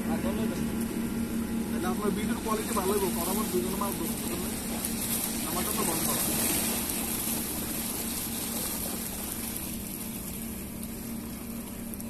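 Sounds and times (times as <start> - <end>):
waves splashing on rocky shore: 1.8 - 11.7.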